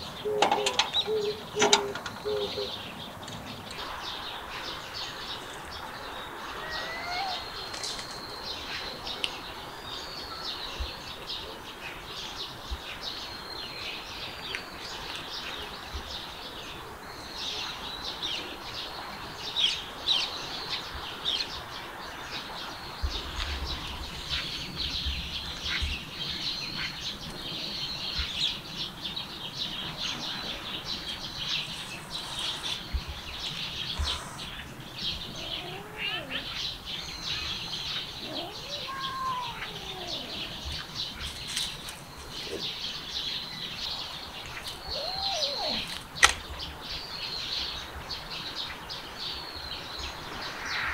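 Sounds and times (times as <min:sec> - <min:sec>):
birds chirping and trilling: 0:00.0 - 0:50.9
outdoor background noise: 0:00.0 - 0:50.9.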